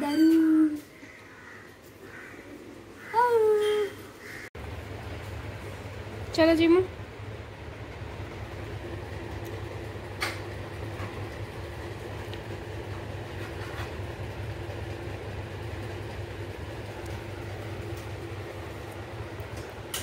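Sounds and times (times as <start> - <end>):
low rumbling hum: 0.0 - 20.0.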